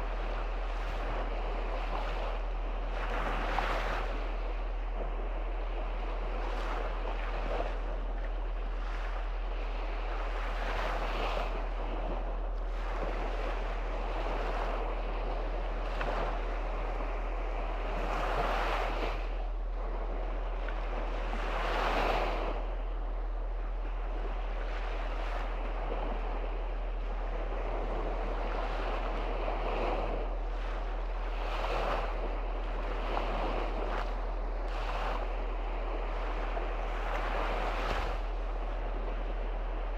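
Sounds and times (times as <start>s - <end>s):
small waves washing on sand: 0.0s - 39.9s
steady low rumble: 0.0s - 39.9s.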